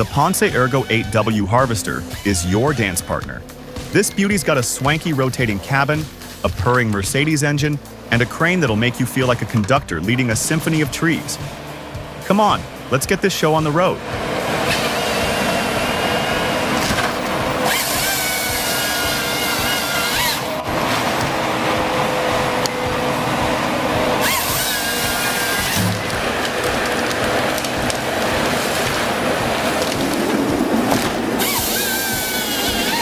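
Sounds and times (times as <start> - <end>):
background music: 0.0 - 33.0
harvester engine and hydraulics: 0.0 - 33.0
high whine of sawing: 0.0 - 33.0.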